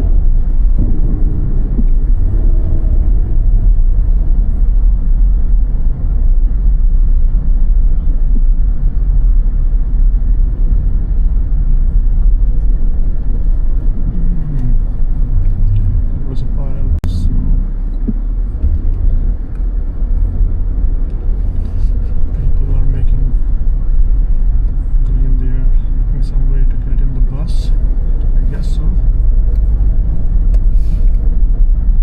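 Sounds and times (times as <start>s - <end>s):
car driving on snow: 0.0s - 32.0s.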